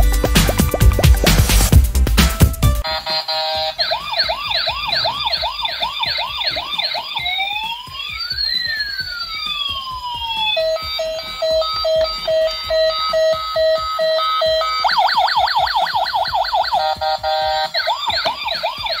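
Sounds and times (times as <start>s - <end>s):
toy siren yelping and wailing: 2.8s - 19.0s
pulsing electronic beeps: 2.9s - 19.0s.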